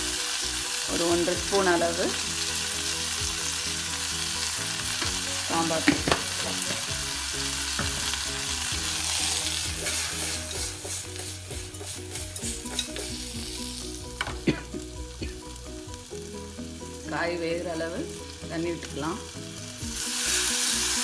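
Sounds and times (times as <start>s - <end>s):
vegetables sizzling in a pot: 0.0s - 21.0s.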